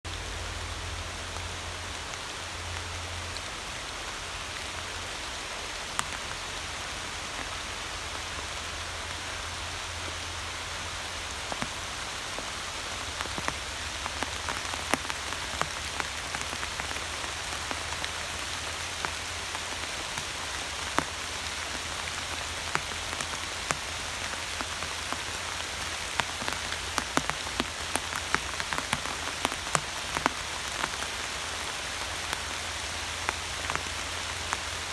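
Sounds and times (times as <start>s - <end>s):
raindrops tapping close by: 0.1s - 34.9s
steady rain falling: 0.1s - 34.9s.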